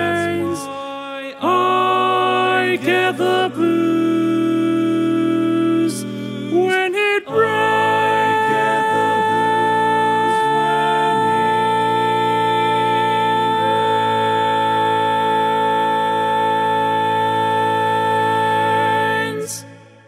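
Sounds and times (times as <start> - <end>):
male quartet singing a cappella: 0.0 - 20.0.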